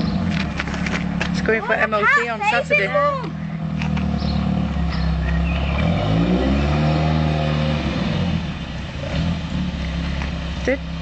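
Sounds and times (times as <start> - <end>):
sports car engine running: 0.0 - 11.0.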